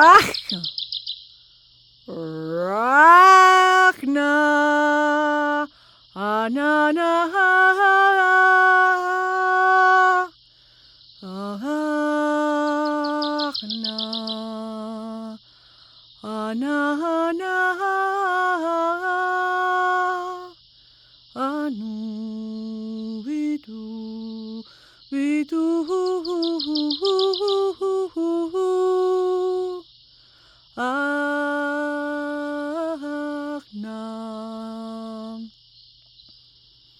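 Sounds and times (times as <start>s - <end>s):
person humming sung notes: 0.0s - 0.7s, 2.1s - 10.3s, 11.2s - 15.4s, 16.2s - 20.6s, 21.4s - 29.8s, 30.8s - 35.5s.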